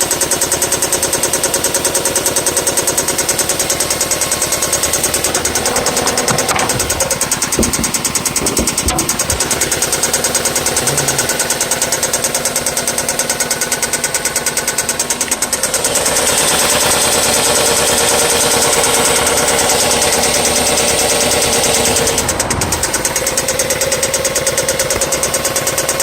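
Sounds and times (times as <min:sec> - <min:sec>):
engine running with ticking: 0:00.0 - 0:26.0.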